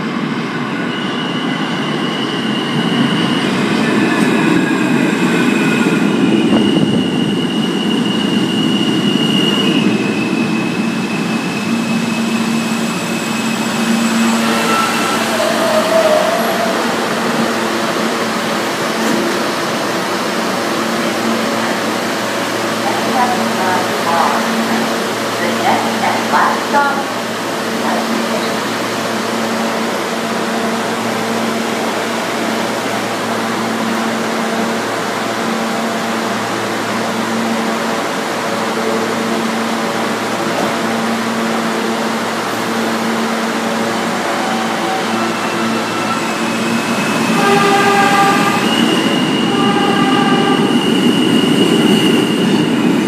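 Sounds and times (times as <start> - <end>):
subway train hum and hiss: 0.0 - 53.0.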